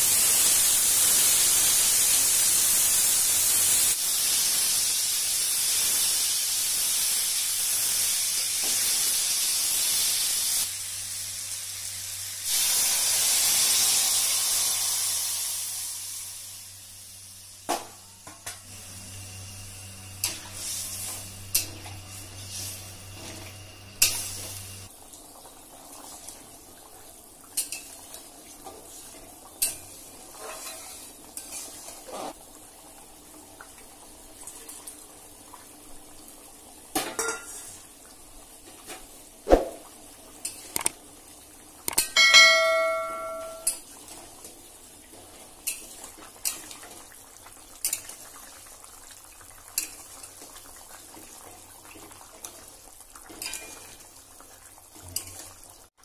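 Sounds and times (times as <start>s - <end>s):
food sizzling in hot oil: 0.0s - 34.3s, 35.2s - 56.0s.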